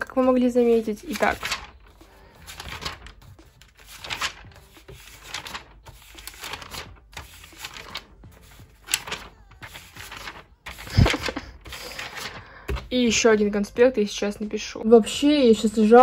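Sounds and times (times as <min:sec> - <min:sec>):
notebook pages flipping: 0:00.1 - 0:13.2.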